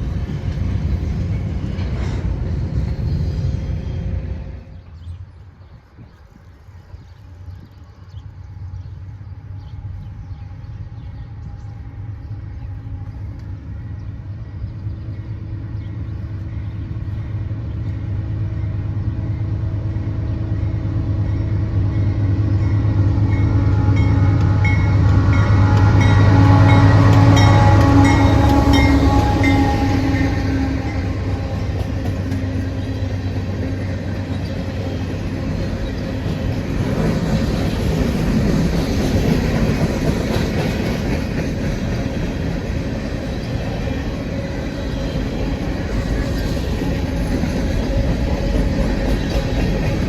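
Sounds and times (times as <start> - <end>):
train approaching on track: 0.0 - 50.0.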